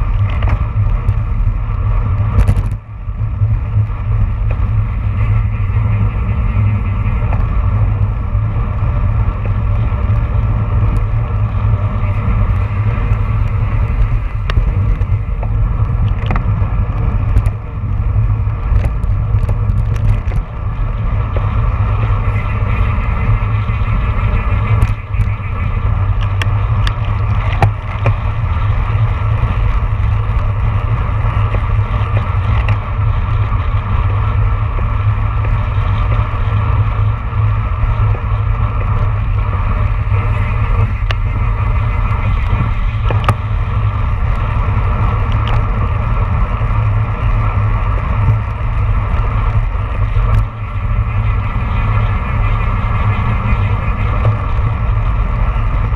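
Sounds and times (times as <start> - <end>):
bike clicks and knocks: 0.0 - 6.1, 6.8 - 23.6, 24.2 - 51.0
wind buffeting microphone: 0.0 - 55.9.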